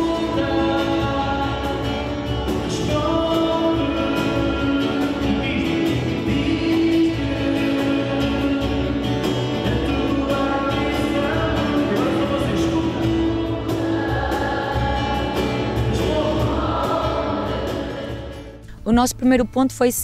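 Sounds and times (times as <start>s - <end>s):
group singing worship song: 0.0s - 18.6s
strummed acoustic guitars: 0.0s - 19.9s
keyboard: 0.0s - 20.0s.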